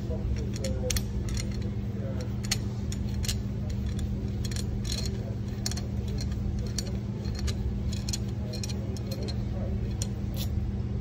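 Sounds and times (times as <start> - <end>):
steady low hum: 0.0 - 11.0
metallic clicks and ticks: 0.4 - 10.5.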